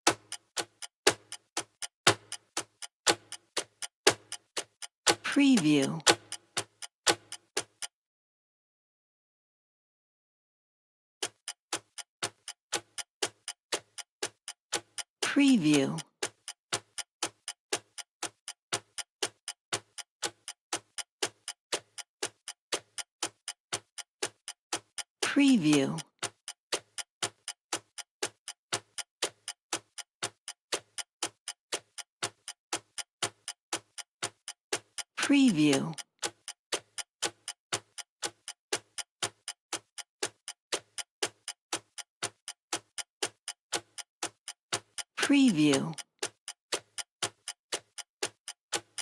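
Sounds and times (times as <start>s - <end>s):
clock ticking: 0.0s - 7.9s, 11.2s - 49.0s.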